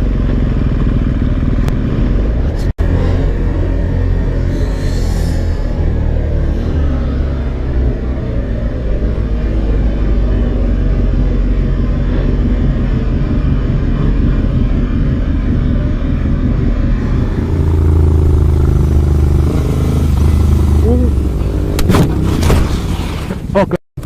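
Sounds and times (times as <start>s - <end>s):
motorcycle engine hum: 0.0s - 23.6s.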